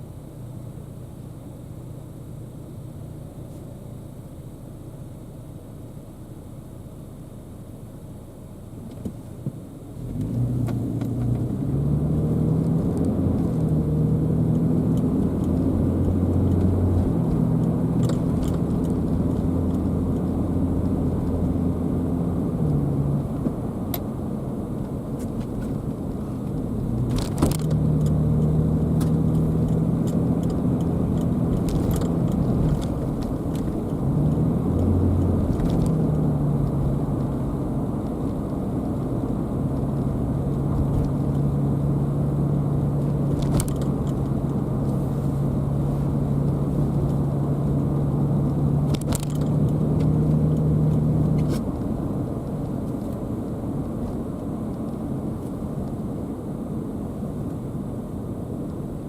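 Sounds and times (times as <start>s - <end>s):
car engine hum: 0.0s - 59.0s
road noise: 0.0s - 59.0s.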